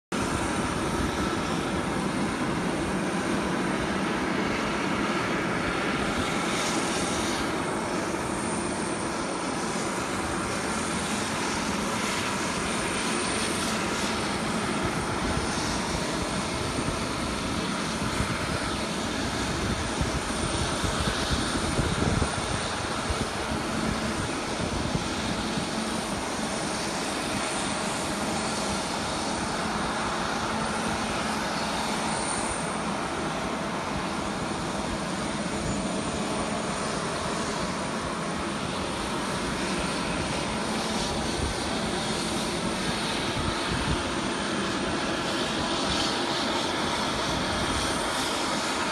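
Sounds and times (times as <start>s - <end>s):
aircraft turbine whine and roar: 0.0s - 48.9s
wind buffeting microphone: 0.2s - 48.9s.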